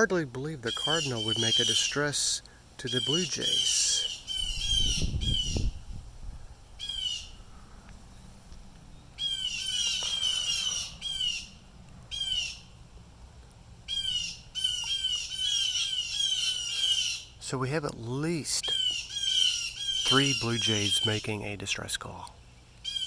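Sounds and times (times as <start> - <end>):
jays squawking: 0.0 - 5.8, 6.7 - 7.9, 9.2 - 12.8, 13.8 - 21.8.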